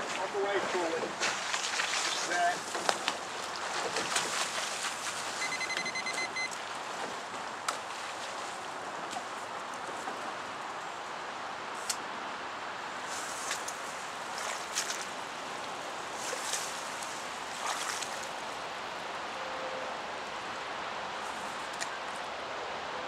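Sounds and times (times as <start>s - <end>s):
water washing along riverbank: 0.0s - 23.0s
wind: 0.0s - 23.0s.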